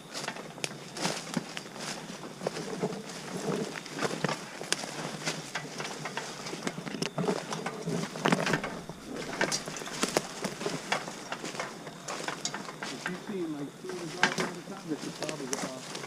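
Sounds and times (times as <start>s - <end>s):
faint outdoor hiss: 0.0s - 16.0s
taps and crackles in dry leaves: 0.0s - 16.0s.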